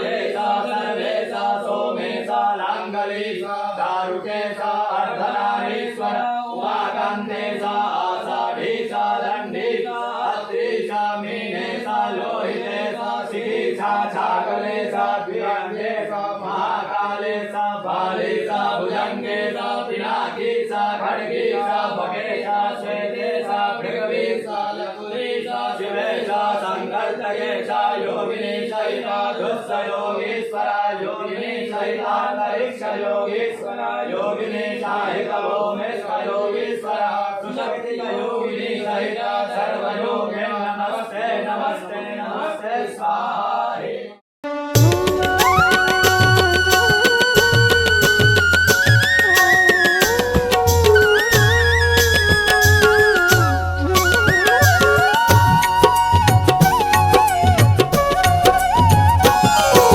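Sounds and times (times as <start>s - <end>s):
devotional chanting: 0.0s - 44.2s, 44.8s - 59.9s.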